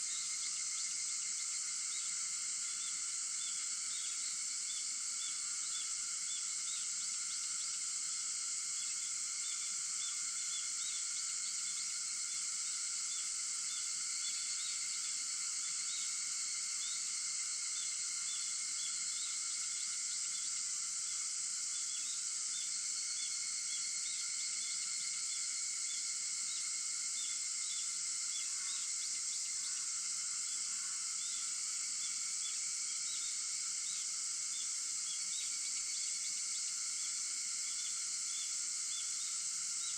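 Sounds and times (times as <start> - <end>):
cicadas buzzing: 0.0 - 39.9
insect chirps: 0.0 - 39.9
insects droning: 0.0 - 39.9.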